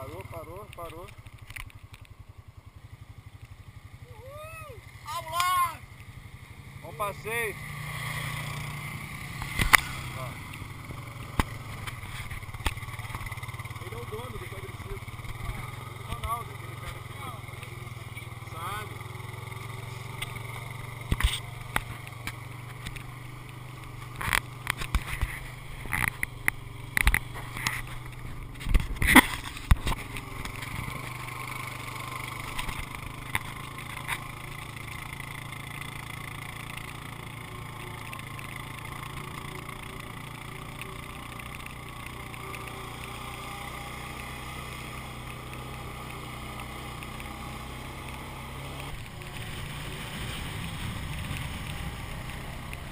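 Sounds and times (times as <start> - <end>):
quad engine droning: 0.0 - 52.9.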